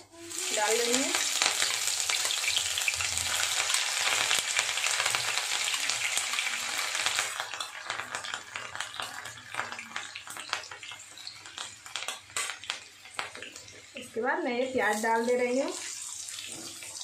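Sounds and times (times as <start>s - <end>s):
chillies sizzling in hot oil: 0.0s - 17.0s
oil crackles and pops: 0.2s - 14.2s.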